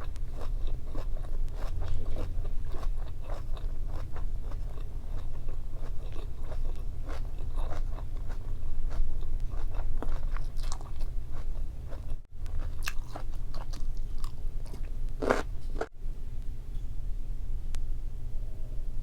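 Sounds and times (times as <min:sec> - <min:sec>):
biting crunching and chewing: 0:00.0 - 0:15.9
steady low hum: 0:00.0 - 0:19.0.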